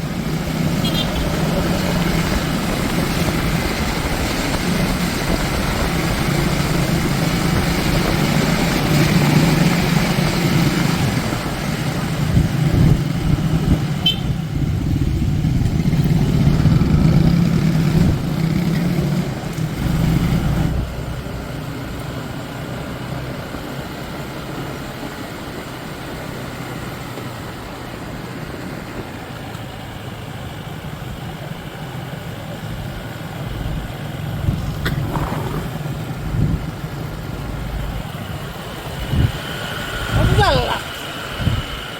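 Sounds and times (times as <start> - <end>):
road noise: 0.0 - 41.9
vehicle engine running: 0.0 - 41.9.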